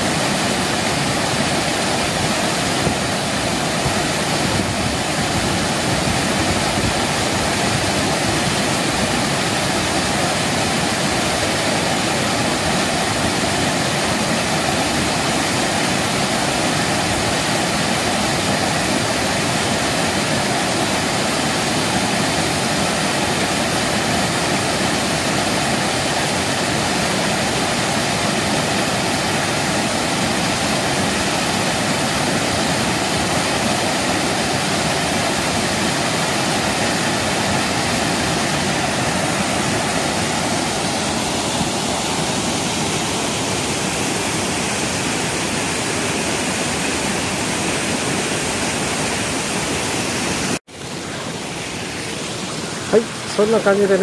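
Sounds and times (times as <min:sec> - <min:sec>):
waterfall rushing into pool: 0:00.0 - 0:54.0.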